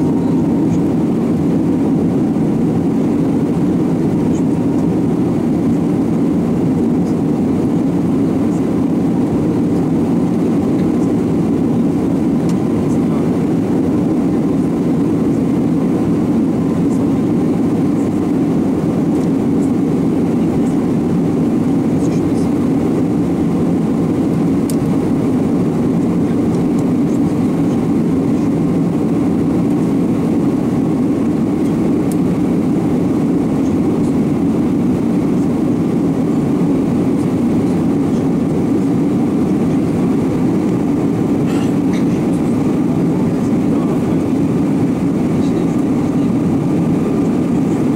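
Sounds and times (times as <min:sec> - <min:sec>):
deep rumble of engines and airflow: 0:00.0 - 0:47.9.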